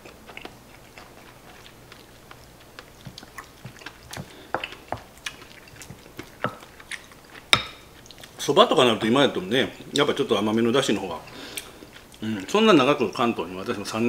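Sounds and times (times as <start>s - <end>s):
close chewing: 0.0s - 14.0s.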